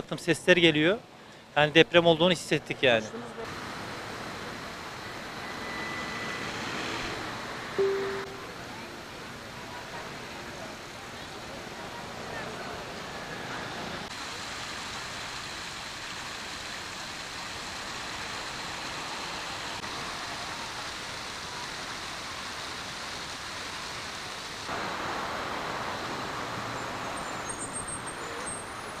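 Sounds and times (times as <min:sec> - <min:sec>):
city street traffic: 0:00.0 - 0:29.0.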